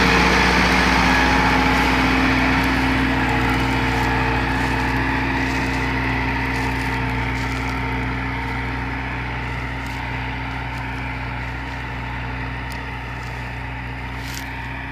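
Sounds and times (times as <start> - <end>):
tractor diesel engine under load: 0.0 - 14.9.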